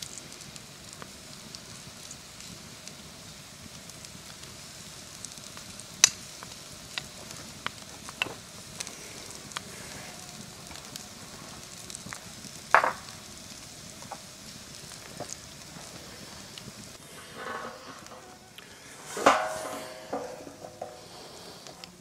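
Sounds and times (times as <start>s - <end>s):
campfire crackling and popping: 0.0s - 22.0s
meat sizzling on grill: 0.0s - 22.0s.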